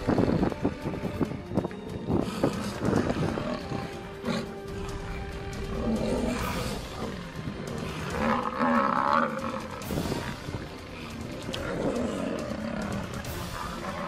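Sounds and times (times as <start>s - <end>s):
background music: 0.0s - 14.0s
lions growling: 1.9s - 14.0s.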